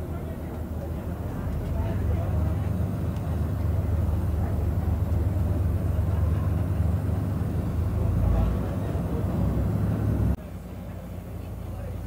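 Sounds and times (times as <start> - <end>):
airplane cabin low rumble: 0.0 - 12.0.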